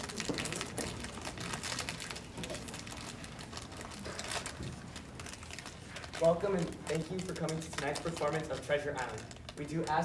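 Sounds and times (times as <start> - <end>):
audience rustling in seats: 0.0 - 10.0
small clicks and crinkles: 0.0 - 10.0.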